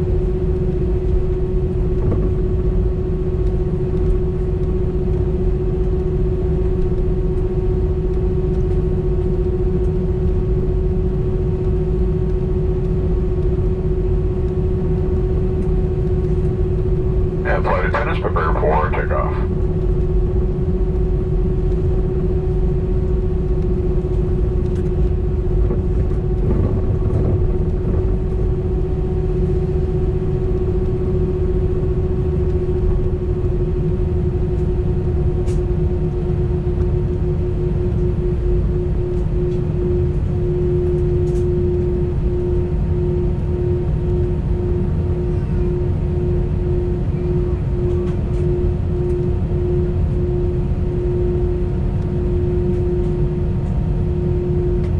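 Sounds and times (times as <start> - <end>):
jet engines at takeoff: 0.0 - 54.9.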